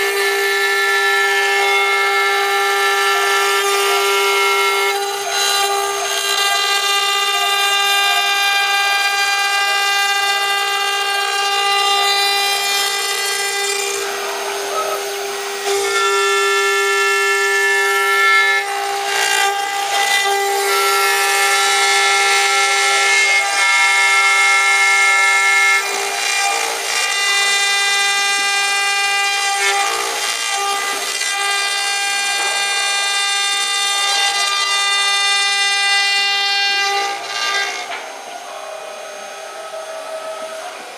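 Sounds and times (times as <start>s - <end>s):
bit rasping through wood: 0.0s - 40.9s
router spindle whining: 0.0s - 40.9s.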